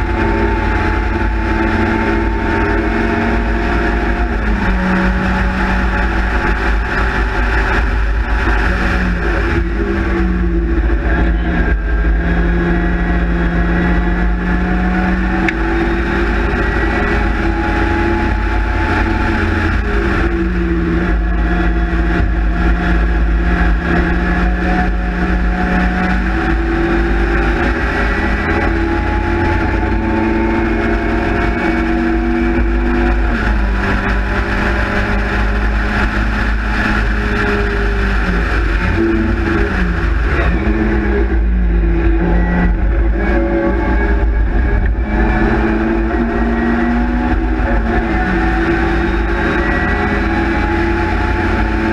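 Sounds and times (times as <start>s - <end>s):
race car engine revving: 0.0s - 51.9s
road rumble: 0.0s - 51.9s
wind noise: 0.0s - 51.9s.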